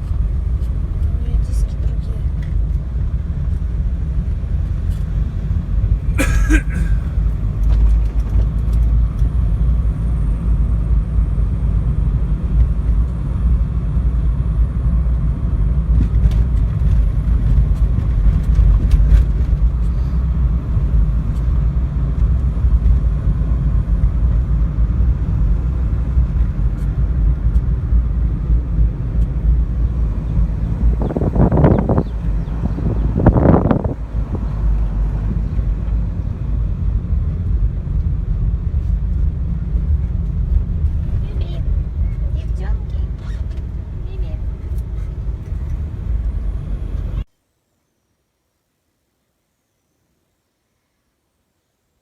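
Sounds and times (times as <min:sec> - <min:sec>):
car engine and road rumble: 0:00.0 - 0:47.3.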